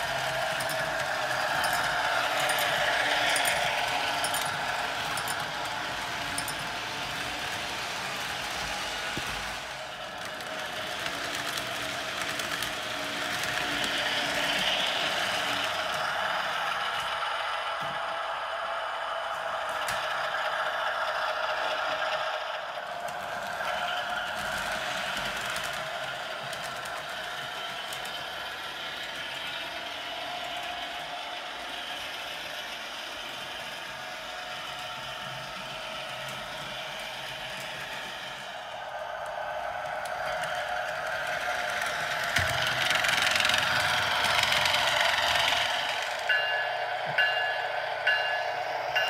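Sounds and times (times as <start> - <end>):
model train motor whirring: 0.0 - 49.0
wheels ticking over rails: 0.0 - 49.0.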